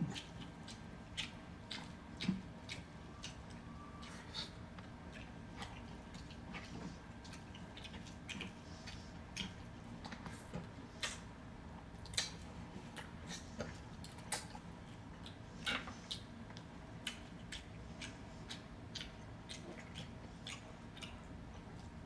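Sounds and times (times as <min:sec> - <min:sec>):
chewing and mouth noises: 0:00.0 - 0:22.0
faint low hum: 0:00.0 - 0:22.0.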